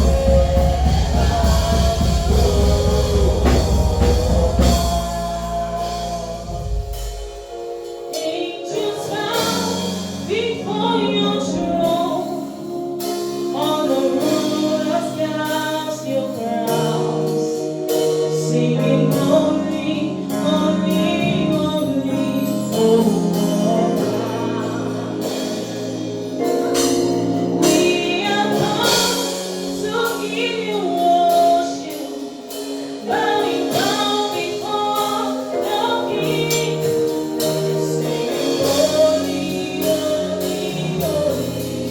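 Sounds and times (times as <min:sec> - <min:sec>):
gospel choir singing: 0:00.0 - 0:41.9
instrumental accompaniment: 0:00.0 - 0:41.9.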